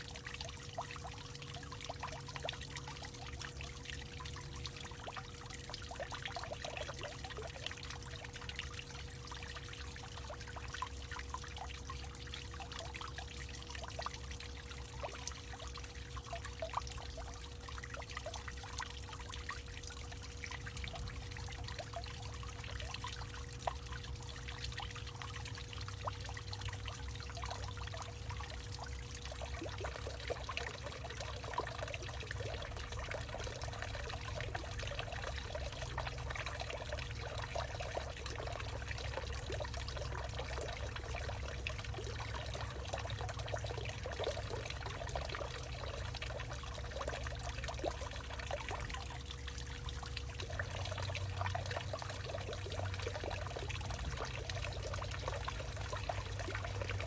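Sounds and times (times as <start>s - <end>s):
faint steady hum: 0.0s - 57.0s
water trickling and dripping: 0.0s - 57.0s.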